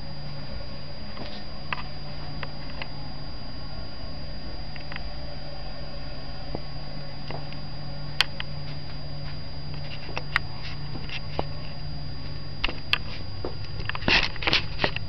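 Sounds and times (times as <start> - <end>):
constant high whine: 0.0 - 15.0
steady low hum: 0.0 - 15.0.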